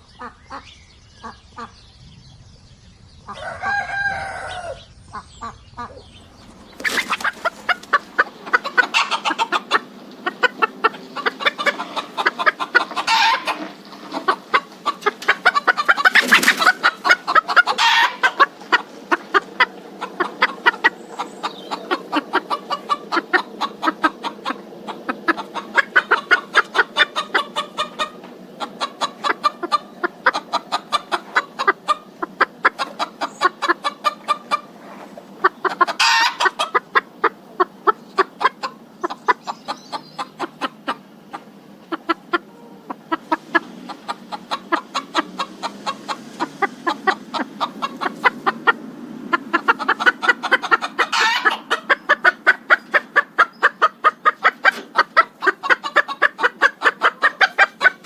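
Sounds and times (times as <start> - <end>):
chicken squawking: 3.3 - 58.0
chickens clucking: 3.3 - 58.0.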